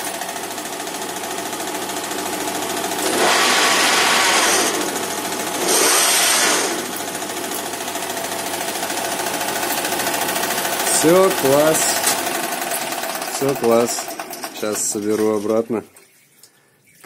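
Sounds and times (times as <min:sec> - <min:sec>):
lathe motor hum: 0:00.0 - 0:15.6
lathe gears whirring clatter: 0:00.0 - 0:15.8.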